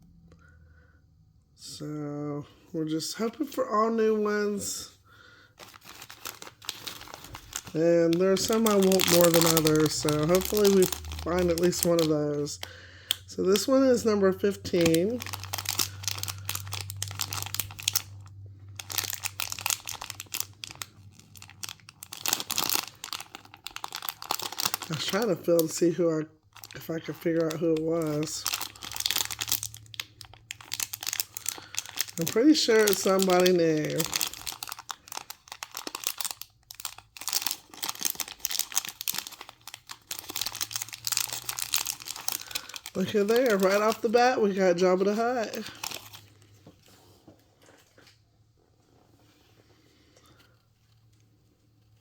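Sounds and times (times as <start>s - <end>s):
plastic wrapper crinkling: 5.6s - 48.2s.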